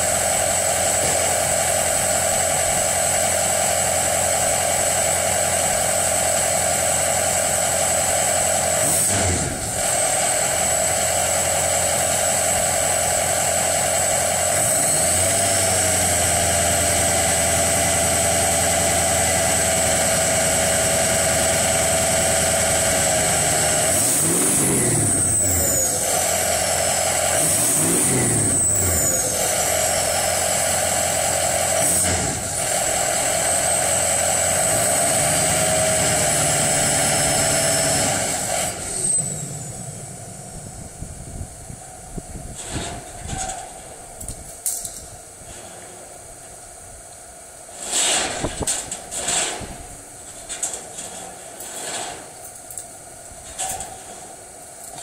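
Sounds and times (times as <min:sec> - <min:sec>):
diesel engine revving: 0:00.0 - 0:44.3.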